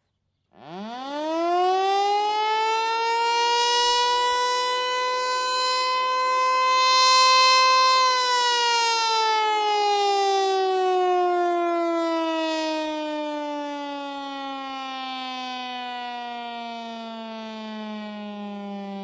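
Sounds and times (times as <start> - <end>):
warning siren steady tone: 0.5 - 19.0.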